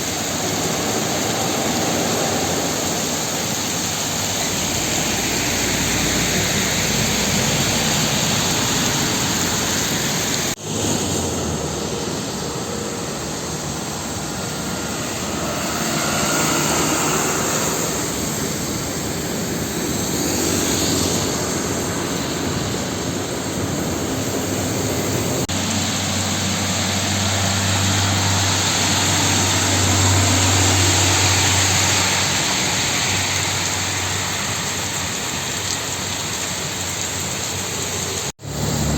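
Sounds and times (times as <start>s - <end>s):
truck engine drone: 0.0s - 35.0s, 37.4s - 38.9s
heavy rain: 0.0s - 38.9s
tyres hissing on wet road: 0.0s - 38.9s.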